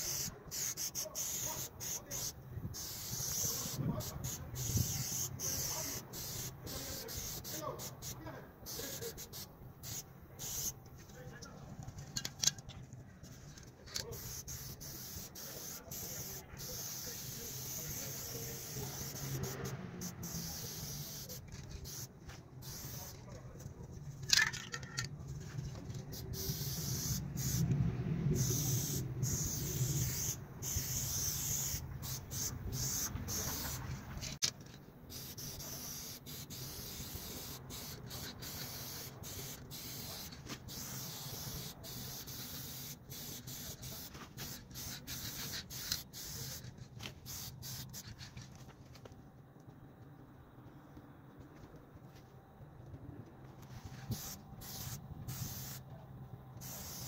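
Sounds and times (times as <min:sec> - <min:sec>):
spray paint cans hissing: 0:00.0 - 0:10.8, 0:13.3 - 0:27.8, 0:28.4 - 0:34.5, 0:35.1 - 0:49.0, 0:53.6 - 0:55.9, 0:56.6 - 0:57.0.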